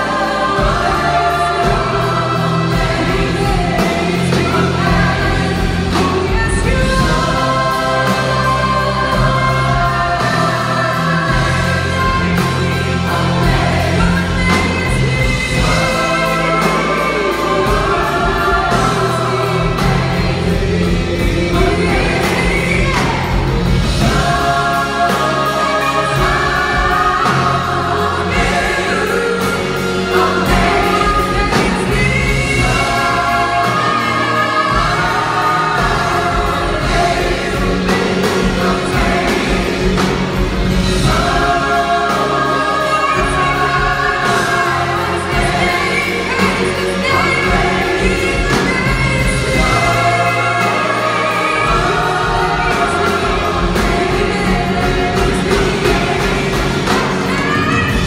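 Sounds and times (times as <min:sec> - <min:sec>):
choir singing gospel: 0:00.0 - 0:58.0
drums: 0:00.0 - 0:58.0
piano: 0:00.0 - 0:58.0.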